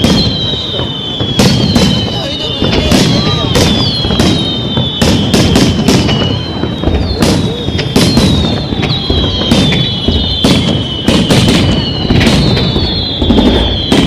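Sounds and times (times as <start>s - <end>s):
fireworks bangs: 0.0s - 14.0s
high whistling tone: 0.0s - 14.0s.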